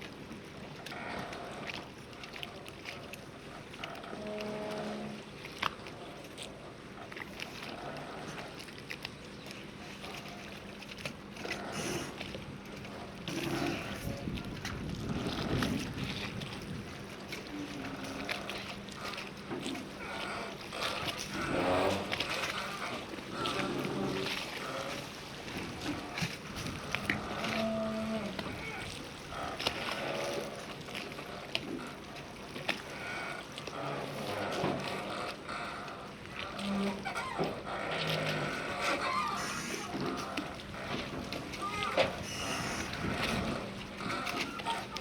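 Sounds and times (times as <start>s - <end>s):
boat engine hum: 0.0s - 45.0s.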